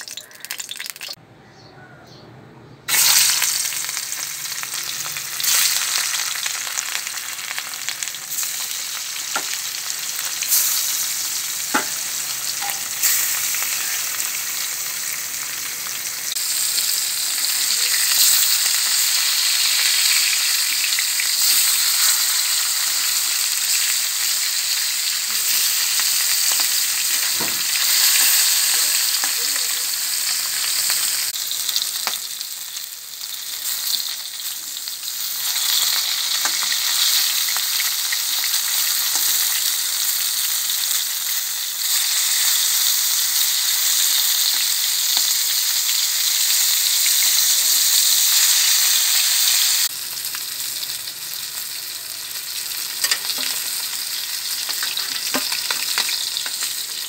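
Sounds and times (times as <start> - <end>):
fish frying in hot oil: 0.0 - 1.2, 2.9 - 57.0.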